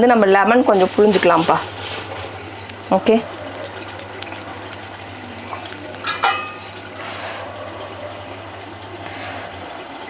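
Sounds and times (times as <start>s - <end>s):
food sizzling and bubbling in a pot: 0.0s - 10.0s.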